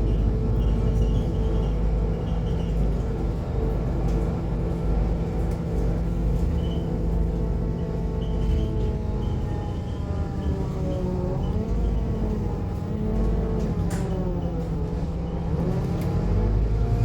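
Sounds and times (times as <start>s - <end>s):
bus engine drone: 0.0s - 17.0s
low road rumble: 0.0s - 17.0s.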